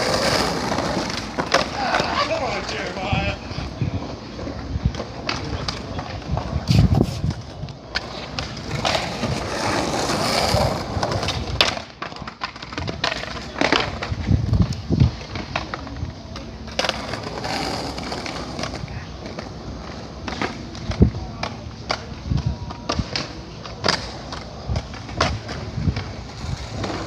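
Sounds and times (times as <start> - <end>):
skateboard wheels rolling: 0.0 - 27.0
skateboards clacking: 0.0 - 27.0.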